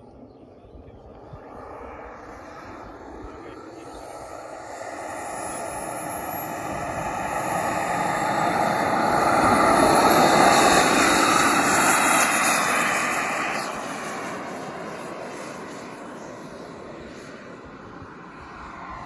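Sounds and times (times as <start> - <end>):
model jet turbine rushing: 0.0 - 19.0.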